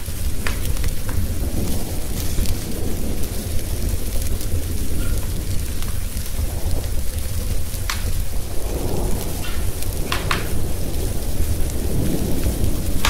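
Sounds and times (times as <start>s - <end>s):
low rumble of thunder: 0.0s - 13.0s
sharp crackles: 0.0s - 13.0s
steady rain: 0.0s - 13.0s.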